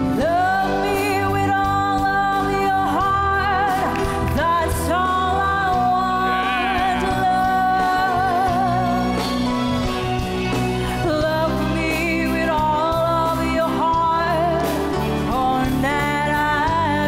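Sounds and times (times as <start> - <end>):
woman singing with vibrato: 0.0 - 9.8, 10.9 - 17.0
instrumental backing music: 0.0 - 17.0.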